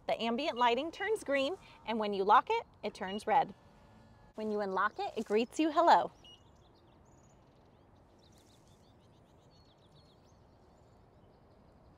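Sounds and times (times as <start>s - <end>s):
small birds chirping: 0.2s - 3.6s, 4.4s - 11.9s.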